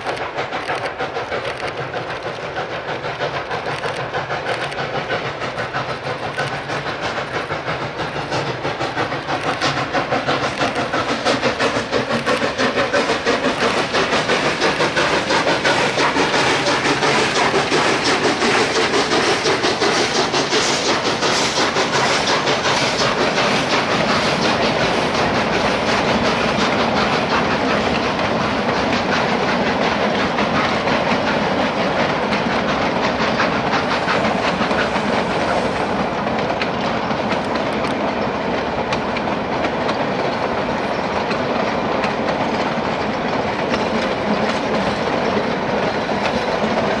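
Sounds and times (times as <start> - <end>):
train running rumble: 0.0 - 47.0
train wheels clicking over rail joints: 0.0 - 47.0.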